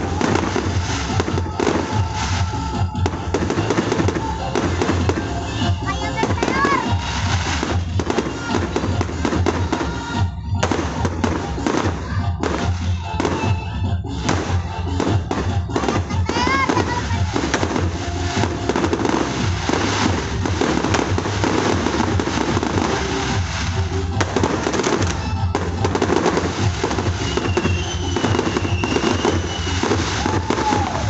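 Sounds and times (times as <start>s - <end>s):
fireworks bangs and crackling: 0.0s - 31.0s
music playing: 0.0s - 31.0s.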